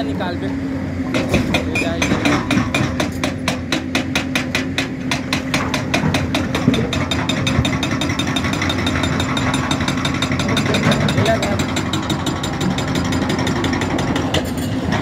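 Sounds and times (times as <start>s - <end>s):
rapid machine hammering: 1.1s - 14.6s.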